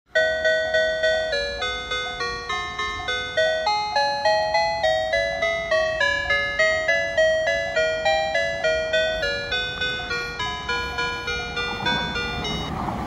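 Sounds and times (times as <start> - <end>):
bell-like chiming melody: 0.1 - 12.7.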